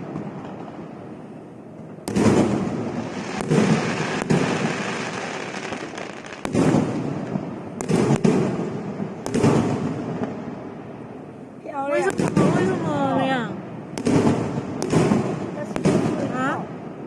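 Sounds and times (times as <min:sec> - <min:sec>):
fireworks bursting with crackling tails: 0:00.0 - 0:17.0.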